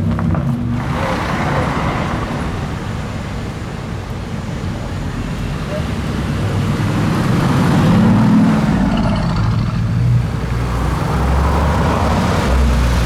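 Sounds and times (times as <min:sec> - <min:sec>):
car engine running: 0:00.0 - 0:13.0
street noise: 0:00.0 - 0:13.0.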